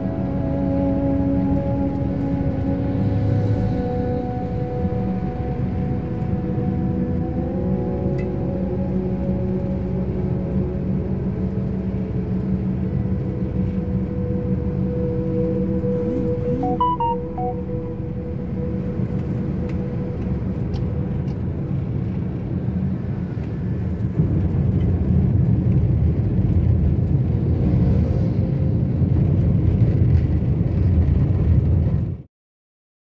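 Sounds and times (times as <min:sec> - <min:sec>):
car cabin engine and road noise: 0:00.0 - 0:32.2.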